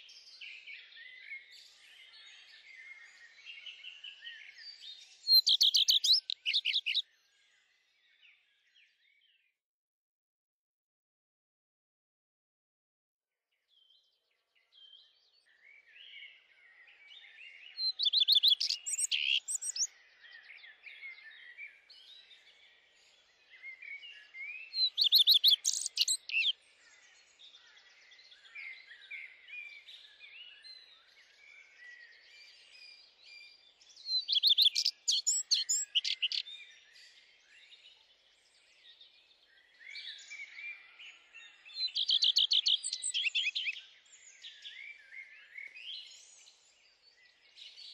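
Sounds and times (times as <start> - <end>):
bird trilled song: 0.0 - 7.4, 14.8 - 22.4, 23.4 - 47.9
small birds chirping: 0.0 - 9.5, 13.7 - 47.9.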